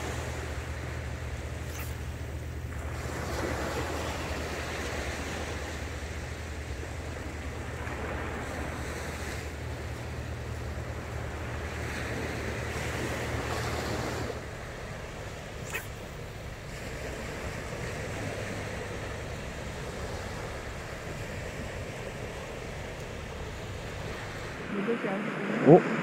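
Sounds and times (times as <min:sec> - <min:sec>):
low hum: 0:00.0 - 0:26.0
waves breaking on sandy beach: 0:00.0 - 0:26.0.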